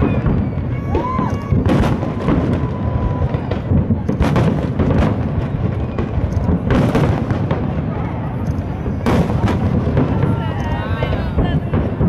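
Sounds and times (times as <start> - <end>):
firework shells booming: 0.0 - 12.0
firework whistle: 0.0 - 12.0
sharp firework cracks: 0.0 - 12.0.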